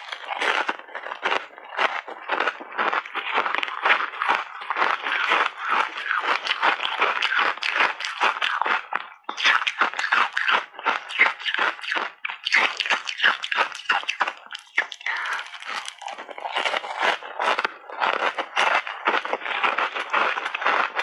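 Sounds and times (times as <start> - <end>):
chewing crunchy ice: 0.0 - 21.0.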